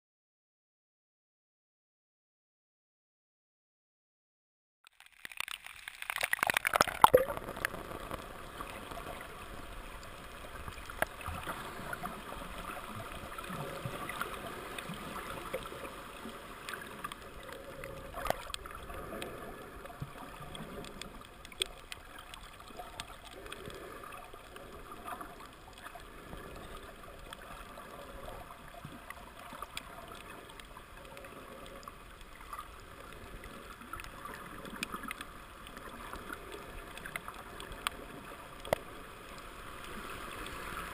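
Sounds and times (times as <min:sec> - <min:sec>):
faint clicks: 0:04.9 - 0:40.6
muffled underwater water hiss: 0:05.6 - 0:40.9.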